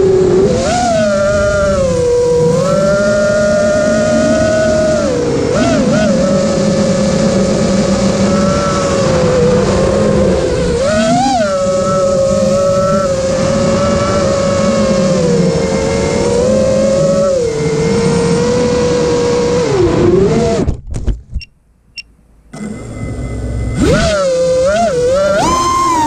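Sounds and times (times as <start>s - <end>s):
quadcopter motors whining: 0.0s - 20.7s, 22.5s - 26.0s.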